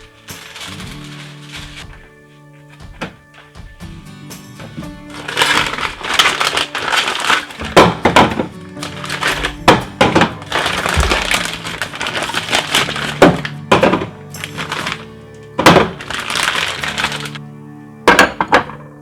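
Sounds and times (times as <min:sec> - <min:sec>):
containers and packages rustling: 0:00.0 - 0:17.4
soft background music: 0:00.0 - 0:19.0.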